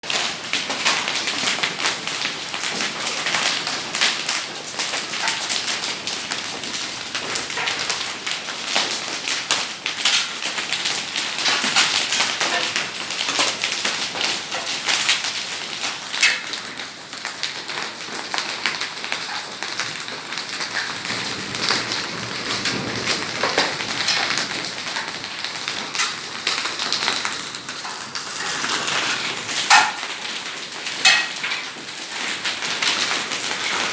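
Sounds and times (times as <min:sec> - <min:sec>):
heavy rain falling: 0:00.0 - 0:33.9
sharp raindrop impacts: 0:00.0 - 0:33.9.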